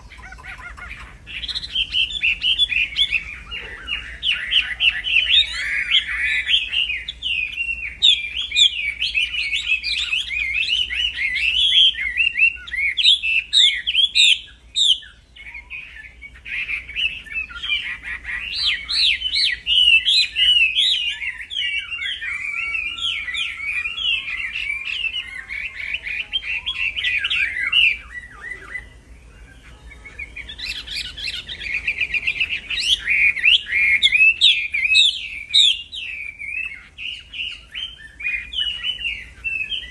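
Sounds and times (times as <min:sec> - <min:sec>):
songbird twittering chirps: 0:00.0 - 0:39.9.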